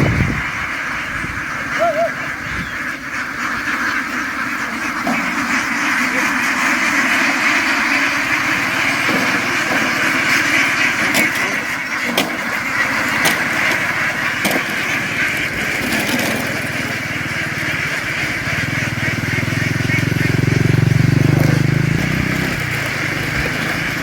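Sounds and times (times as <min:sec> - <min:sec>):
ducks quacking: 0:00.0 - 0:24.0
small boat engine running: 0:04.1 - 0:24.0.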